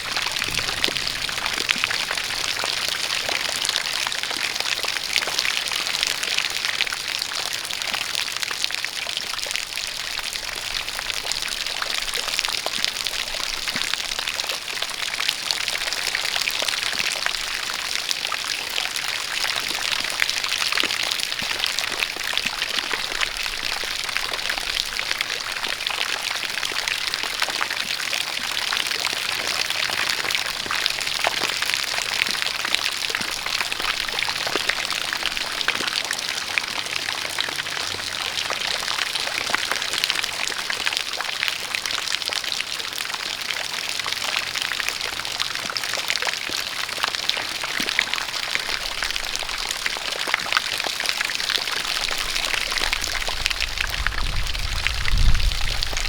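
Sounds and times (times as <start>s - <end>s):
steady rain: 0.0s - 56.0s
water pouring from a spout: 0.0s - 56.0s.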